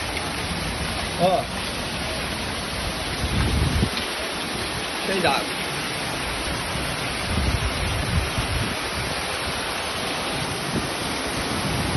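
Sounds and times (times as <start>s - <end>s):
heavy rain on flooded street: 0.0s - 11.9s.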